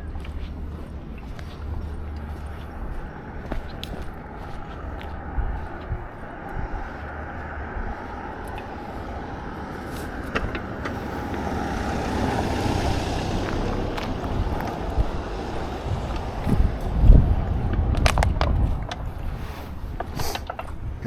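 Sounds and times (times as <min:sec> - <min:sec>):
footstep clicks: 0:00.0 - 0:20.9
steady low street rumble: 0:00.0 - 0:21.0.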